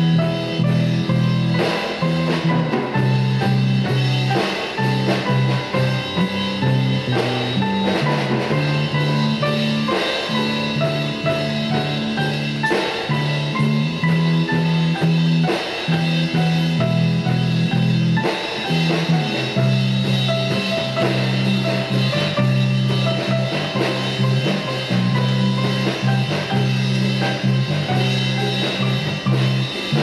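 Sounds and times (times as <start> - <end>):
bass line: 0.0 - 30.0
drum kit: 0.0 - 30.0
held notes: 0.0 - 30.0.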